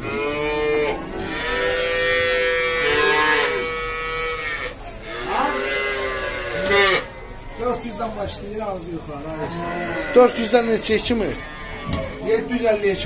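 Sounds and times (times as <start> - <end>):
calves bawling: 0.0 - 7.8, 9.3 - 12.9.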